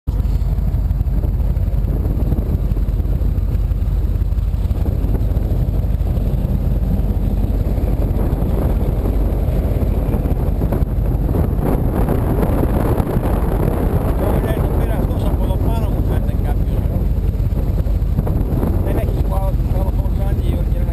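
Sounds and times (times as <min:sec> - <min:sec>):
boat engine low rumble: 0:00.1 - 0:20.9.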